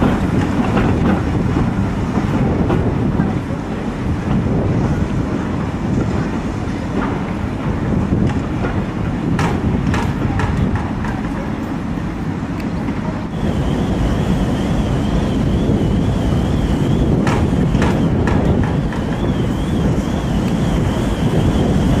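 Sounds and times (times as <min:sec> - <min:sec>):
steam locomotive rumbling: 0:00.0 - 0:22.0
wind on microphone: 0:00.0 - 0:22.0.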